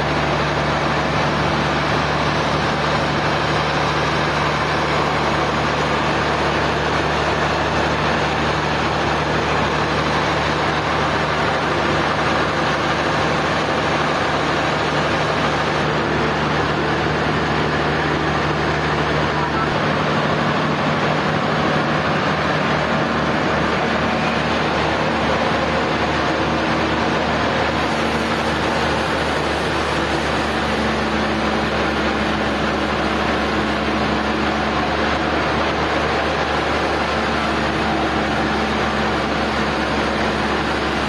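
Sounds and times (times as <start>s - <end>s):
sawmill machinery running: 0.0s - 41.0s.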